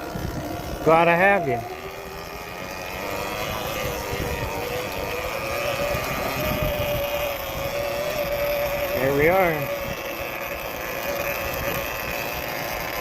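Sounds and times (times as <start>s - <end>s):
wind rumble on microphone: 0.0s - 1.1s, 3.0s - 12.6s
electric motorbike motor whine: 0.0s - 13.0s.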